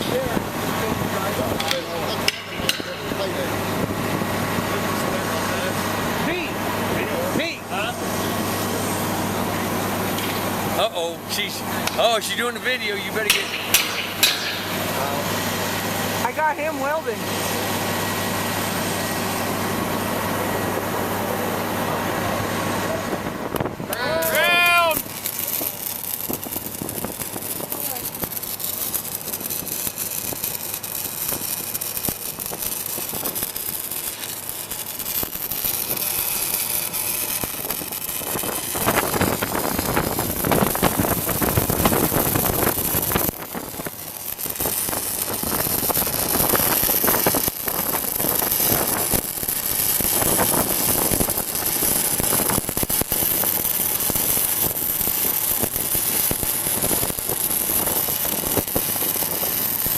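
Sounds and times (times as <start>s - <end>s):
welding arc crackling and hissing: 0.0s - 59.9s
welding machine engine running: 0.0s - 59.9s.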